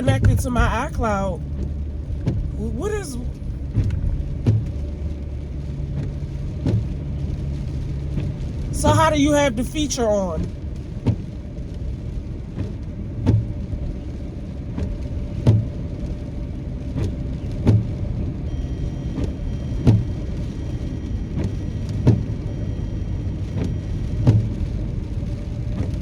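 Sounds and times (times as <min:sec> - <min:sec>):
car interior rumble: 0:00.0 - 0:22.5.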